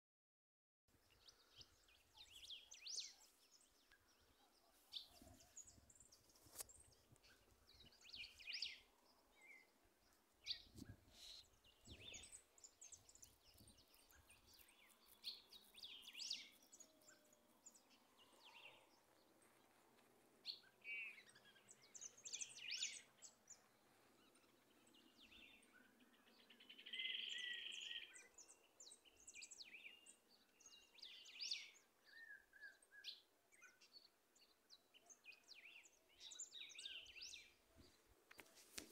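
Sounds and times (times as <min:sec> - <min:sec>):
small birds chirping: 0:00.9 - 0:38.9.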